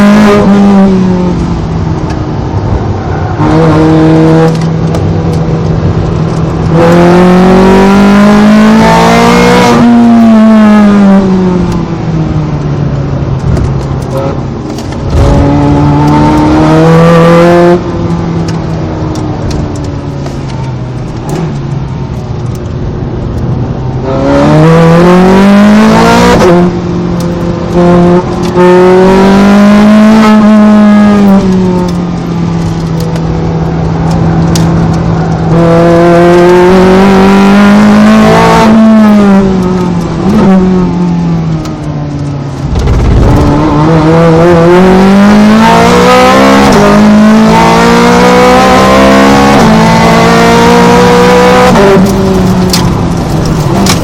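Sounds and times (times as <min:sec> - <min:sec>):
car engine revving: 0:00.0 - 0:12.4, 0:13.0 - 0:54.0.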